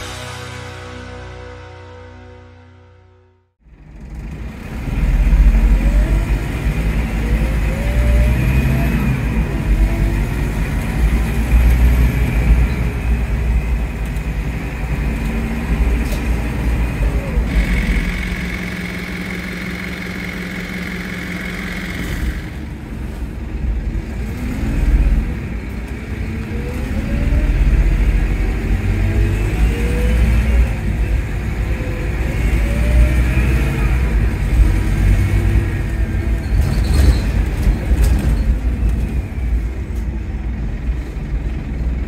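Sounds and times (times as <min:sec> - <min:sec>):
bus idling: 0:00.0 - 0:42.0
bus gearbox whine: 0:03.8 - 0:23.7, 0:24.8 - 0:41.2.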